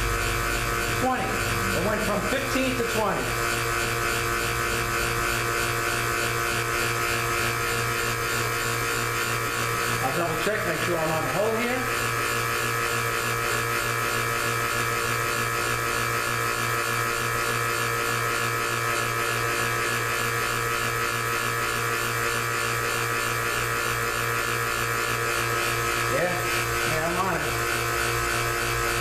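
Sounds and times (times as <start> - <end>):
vacuum pump humming: 0.0 - 29.0.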